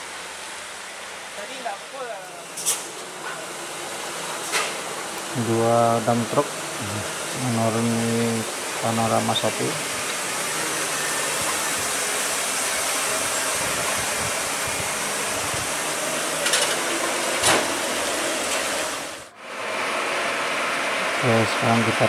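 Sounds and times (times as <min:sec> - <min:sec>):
dump truck rolling on wet road: 0:00.0 - 0:22.0
rain rushing: 0:00.0 - 0:22.0.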